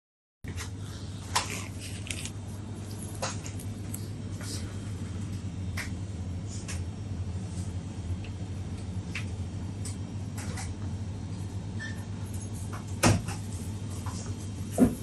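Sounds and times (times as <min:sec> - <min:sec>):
low hum of a shop: 0:00.4 - 0:15.0.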